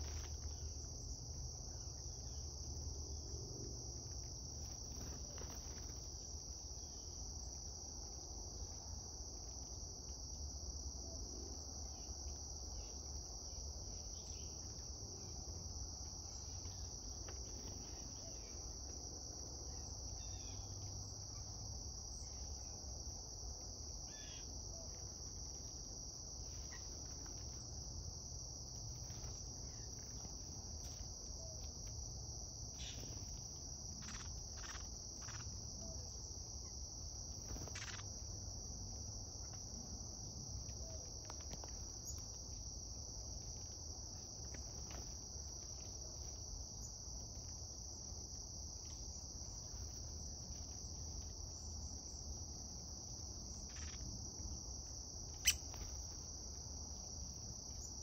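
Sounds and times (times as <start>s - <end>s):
insect chorus: 0.0s - 58.0s.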